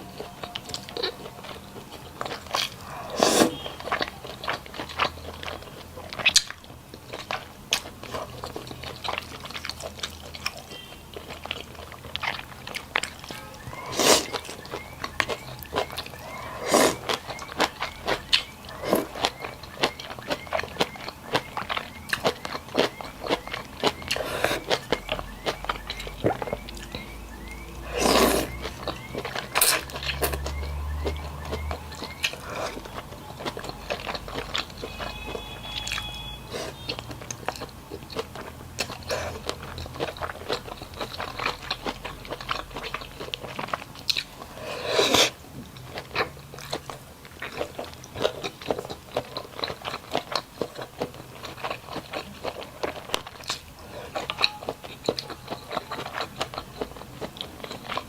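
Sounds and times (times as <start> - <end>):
person crunching and chewing: 0.0 - 58.0.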